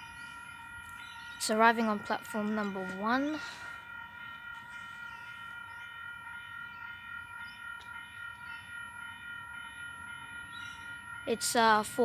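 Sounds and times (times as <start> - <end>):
electric train whine: 0.0 - 12.0.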